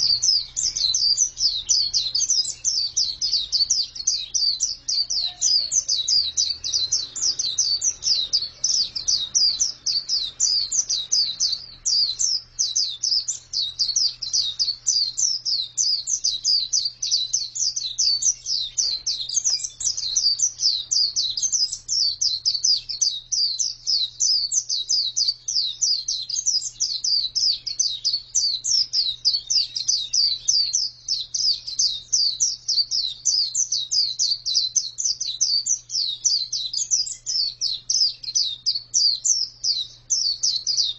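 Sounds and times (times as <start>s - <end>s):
bird twittering warble: 0.0s - 40.9s.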